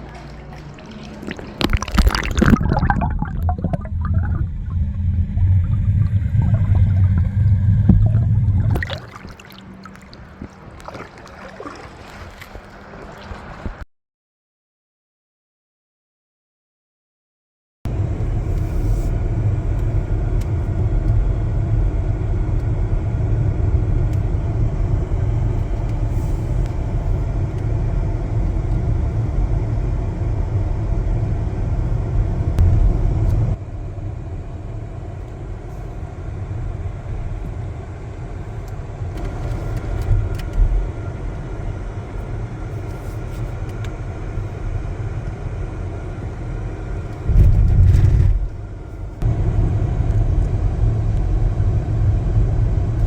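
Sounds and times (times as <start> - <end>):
car road and engine rumble: 0.0 - 11.2, 17.9 - 53.0.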